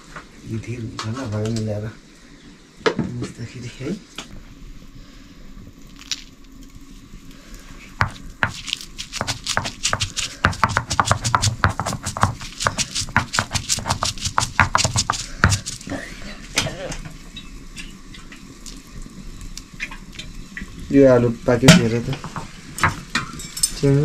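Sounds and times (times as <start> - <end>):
hot oil crackling in a pan: 3.1 - 24.0.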